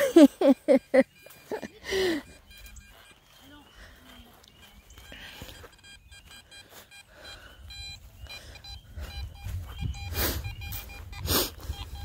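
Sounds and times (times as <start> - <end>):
metal detector beeping: 0.0 - 12.0.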